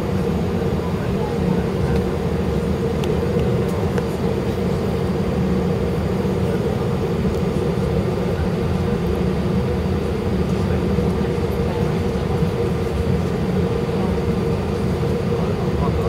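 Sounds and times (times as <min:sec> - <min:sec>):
constant hum: 0:00.0 - 0:16.0
engines idling low rumble: 0:00.0 - 0:16.0.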